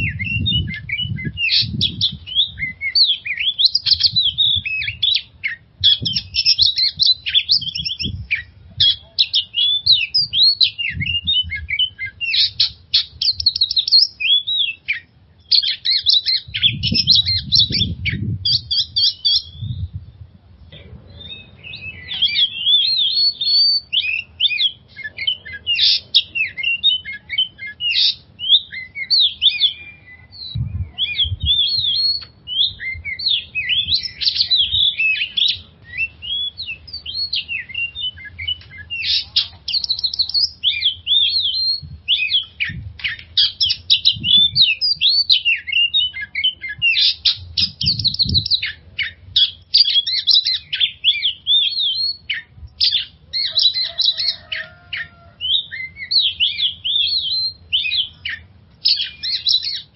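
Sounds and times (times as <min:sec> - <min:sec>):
bird singing whistles and trills: 0:00.0 - 0:20.3, 0:21.0 - 0:59.9.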